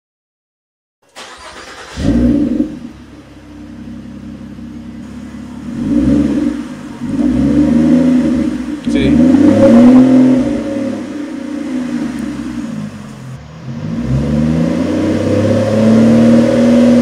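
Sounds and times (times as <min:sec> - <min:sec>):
car engine starting and revving: 0:01.0 - 0:17.0.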